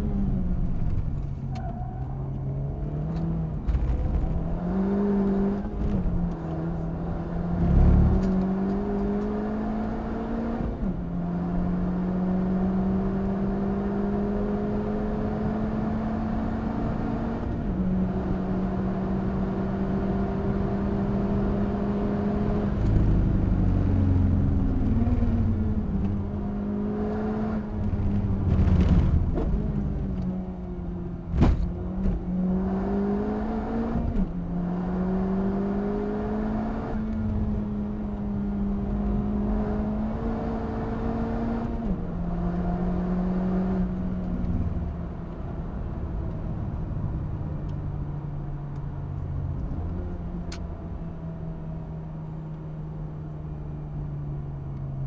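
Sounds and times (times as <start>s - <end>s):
car engine changing gears: 0.0s - 55.0s
road rumble: 0.0s - 55.0s.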